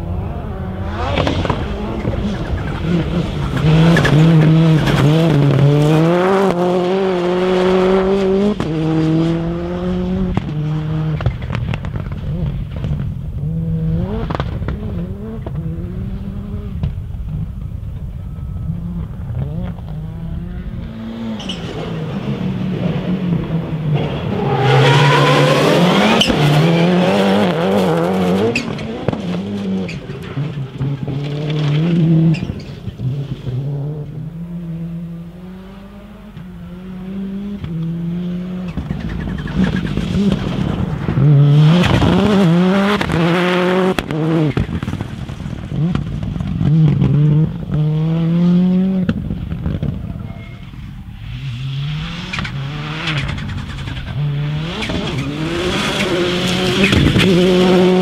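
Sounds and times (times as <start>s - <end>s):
rally cars accelerating past: 0.0s - 17.7s, 18.3s - 58.0s.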